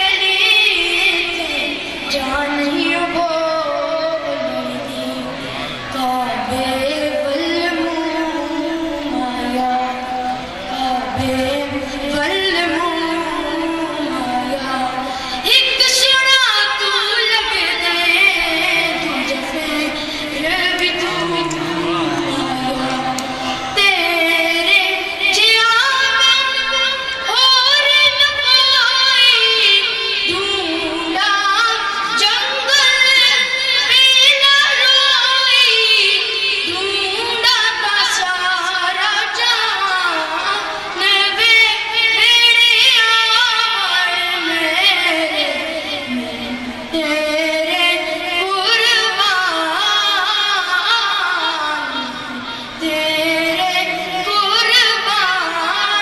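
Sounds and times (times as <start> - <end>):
boy singing into a microphone: 0.0 - 56.0.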